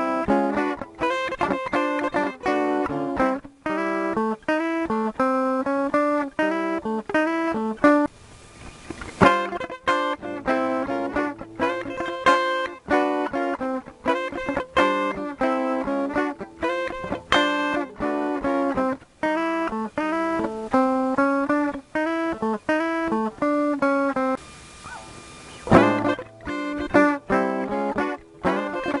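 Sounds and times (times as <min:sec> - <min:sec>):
electric guitar chords ringing: 0:00.0 - 0:29.0.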